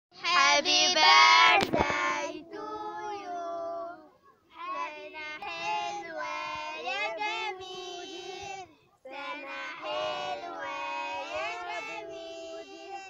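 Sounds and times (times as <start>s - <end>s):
child singing: 0.2s - 13.0s.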